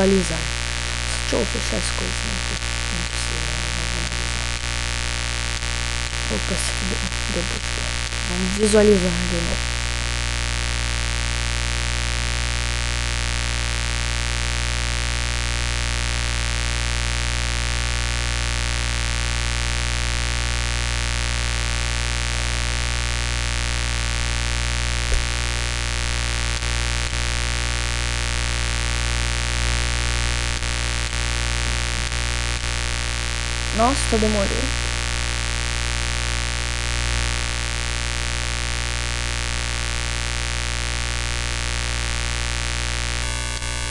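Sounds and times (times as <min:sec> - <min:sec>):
electrical mains hum: 0:00.0 - 0:43.9
microphone line hiss: 0:00.0 - 0:43.9.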